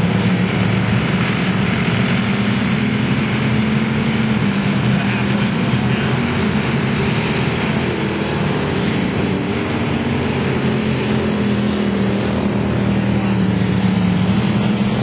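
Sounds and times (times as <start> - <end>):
stock car engines running hard: 0.0 - 15.0.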